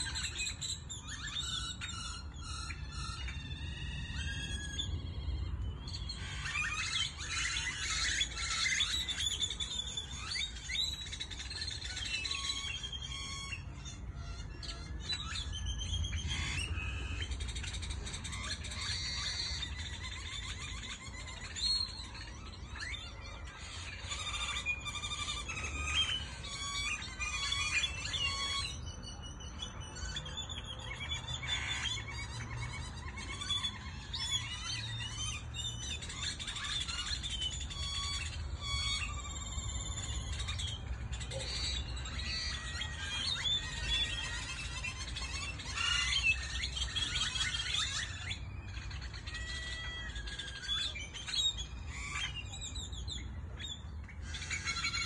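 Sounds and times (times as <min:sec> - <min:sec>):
many small birds chirping: 0:00.0 - 0:55.0.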